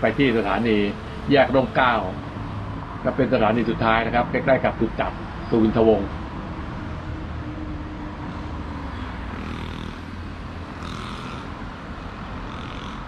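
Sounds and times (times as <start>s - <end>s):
rumble of passing cars: 0.0s - 13.0s.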